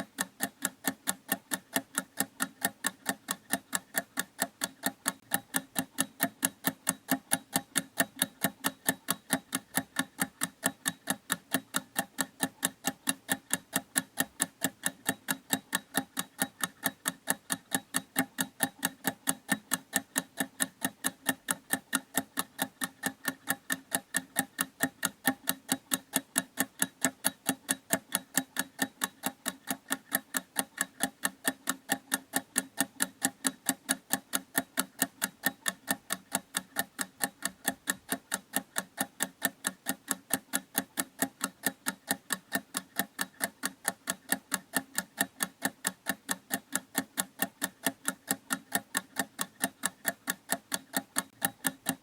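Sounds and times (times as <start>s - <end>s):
clock ticking: 0.0s - 52.0s.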